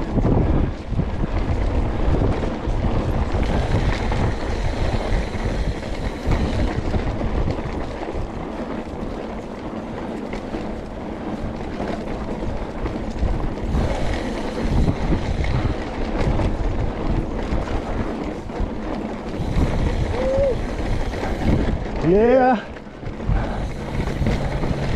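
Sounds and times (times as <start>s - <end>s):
bike clicks and rattles: 0.0s - 24.9s
wind on microphone: 0.0s - 24.9s.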